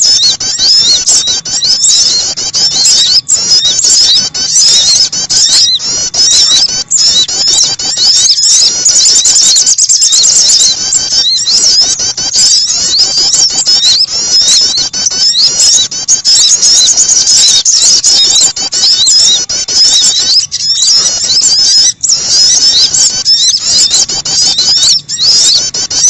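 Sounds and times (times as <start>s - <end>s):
small songbirds chirping: 0.0s - 26.0s.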